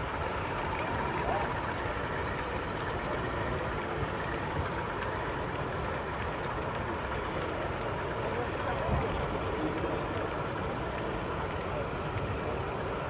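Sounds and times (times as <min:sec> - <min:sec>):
busy exhibition hall noise: 0:00.0 - 0:13.0
model train running: 0:00.0 - 0:13.0.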